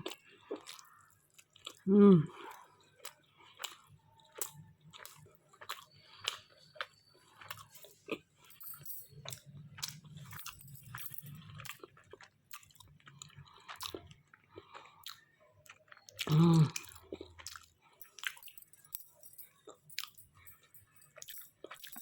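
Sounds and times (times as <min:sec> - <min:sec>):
close-up chewing: 0:00.0 - 0:22.0.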